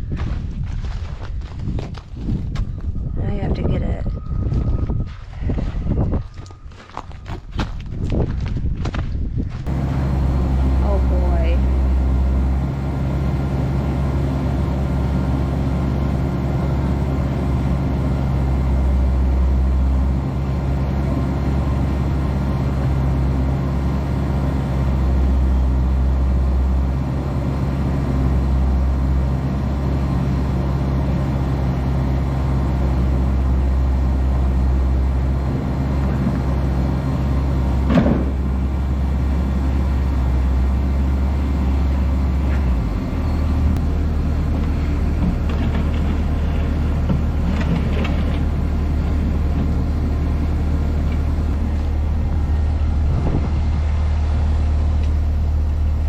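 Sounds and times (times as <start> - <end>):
vehicle engine idling: 9.6 - 56.0.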